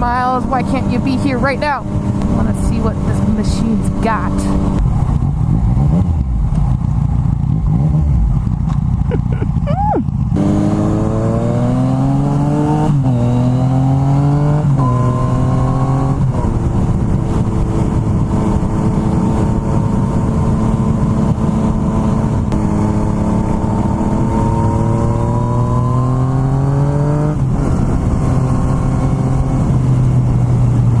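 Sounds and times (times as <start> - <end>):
motorcycle engine accelerating: 0.0 - 31.0
wind noise: 0.0 - 31.0.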